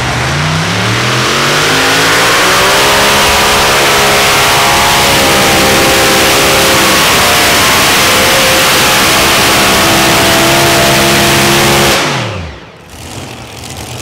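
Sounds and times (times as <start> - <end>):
engines winding down: 0.0 - 14.0
pulling tractor engines roaring: 0.0 - 14.0.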